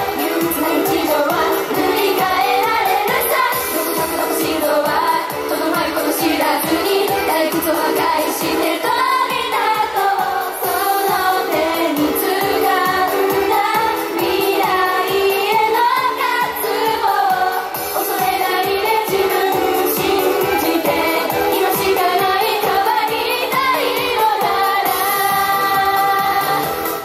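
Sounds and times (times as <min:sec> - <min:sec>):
backing track with steady beat: 0:00.0 - 0:27.0
women singing pop song: 0:00.0 - 0:27.0.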